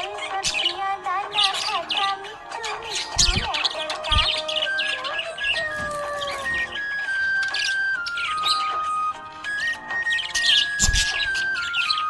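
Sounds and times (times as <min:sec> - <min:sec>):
background music with held notes: 0:00.0 - 0:12.0
budgerigar chirping: 0:00.0 - 0:12.0.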